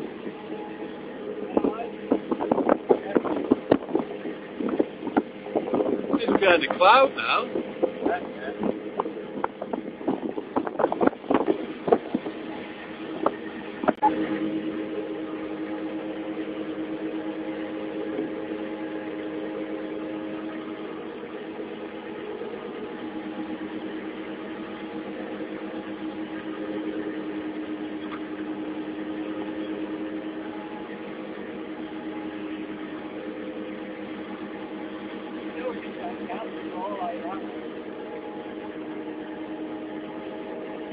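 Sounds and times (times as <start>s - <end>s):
boat engine humming: 0.0s - 40.9s.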